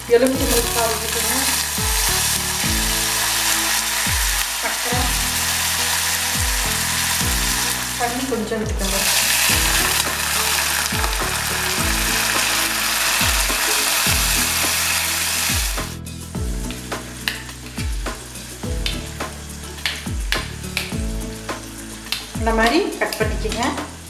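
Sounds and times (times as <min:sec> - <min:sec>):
water sizzling in hot oil: 0:00.0 - 0:24.0.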